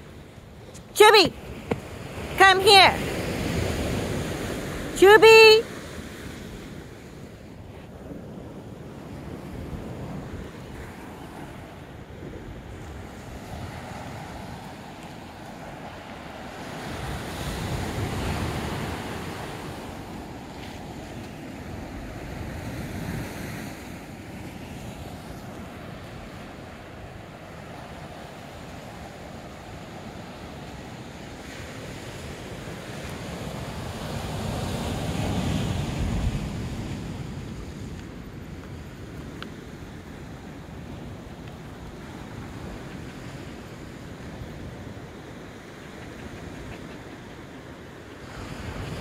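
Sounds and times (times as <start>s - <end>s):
ocean surf: 0.0s - 49.0s
wind buffeting microphone: 6.0s - 49.0s.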